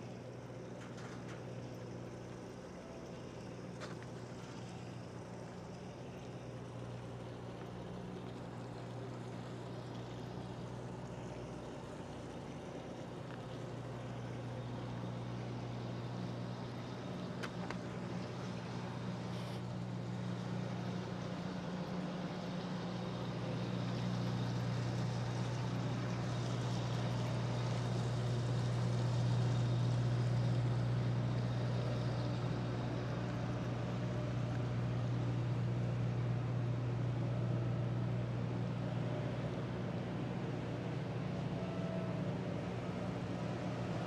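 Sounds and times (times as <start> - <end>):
low machinery hum: 0.0 - 44.0.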